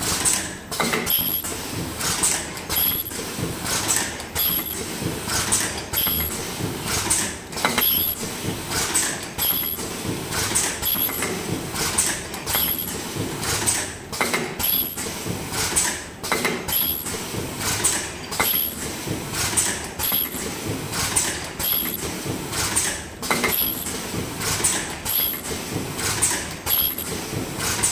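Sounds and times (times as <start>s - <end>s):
constant machine hum: 0.0s - 27.9s
machine clack with high whine: 0.0s - 27.9s.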